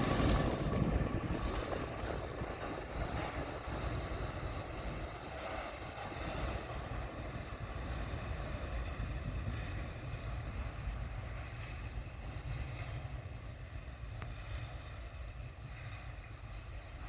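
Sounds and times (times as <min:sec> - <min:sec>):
freight train rumbling past: 0:00.0 - 0:17.0
wind buffeting microphone: 0:00.0 - 0:17.0.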